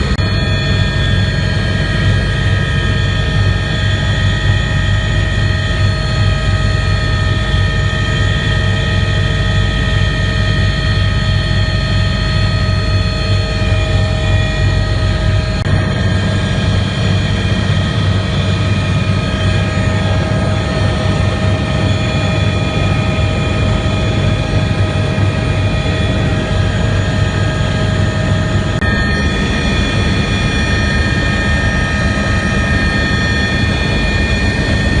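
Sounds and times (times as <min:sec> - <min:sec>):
helicopter rotor and turbine noise: 0:00.0 - 0:35.0
steady whining tones: 0:00.0 - 0:35.0.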